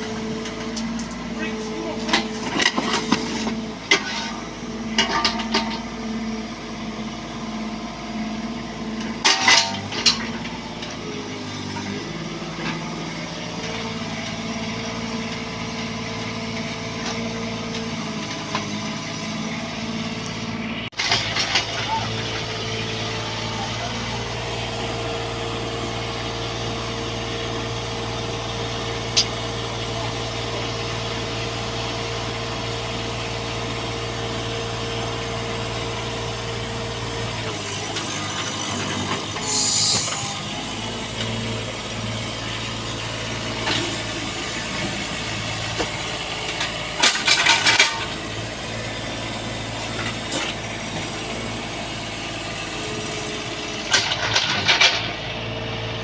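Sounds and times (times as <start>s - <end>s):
mini excavator diesel engine: 0.0s - 56.0s.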